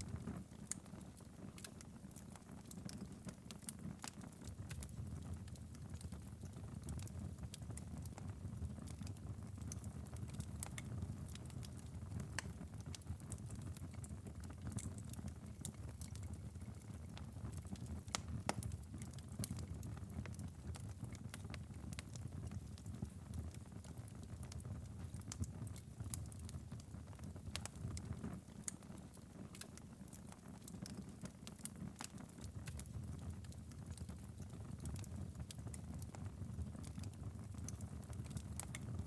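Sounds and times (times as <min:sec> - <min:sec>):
wood fire crackling: 0:00.0 - 0:39.0
low rumble of flames: 0:04.6 - 0:39.0.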